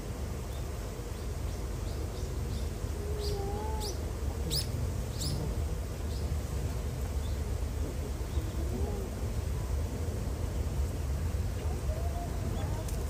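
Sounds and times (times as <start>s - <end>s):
low outdoor rumble: 0.0s - 13.0s
small birds chirping: 0.4s - 9.7s, 11.6s - 13.0s.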